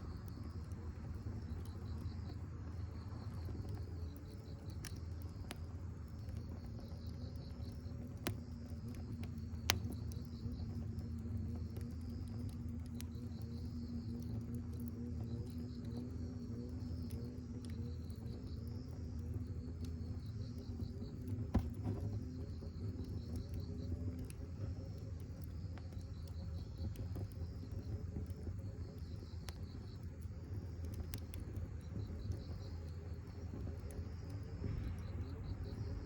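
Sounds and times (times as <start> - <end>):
campfire crackling and popping: 0.0 - 36.0
crickets chirping: 0.0 - 36.0.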